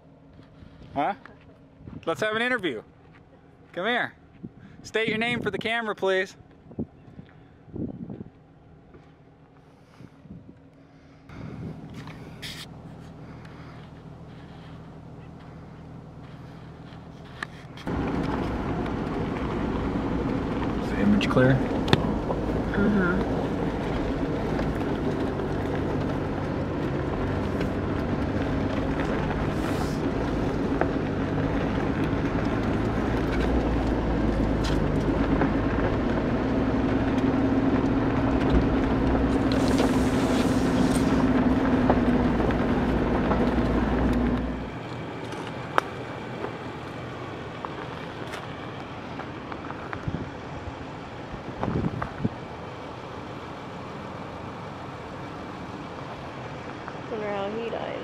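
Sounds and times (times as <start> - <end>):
vehicle engine driving over dirt: 0.0 - 58.0.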